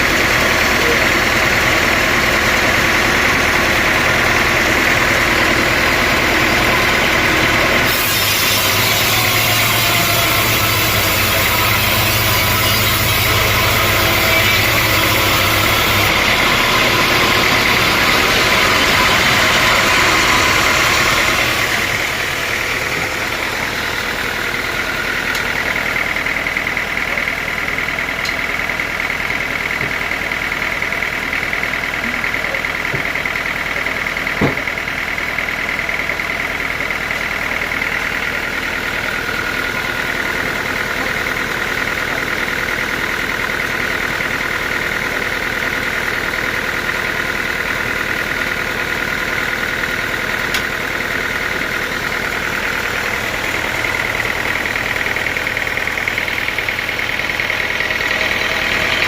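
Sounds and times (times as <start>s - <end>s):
sawmill machinery whining: 0.0s - 59.0s.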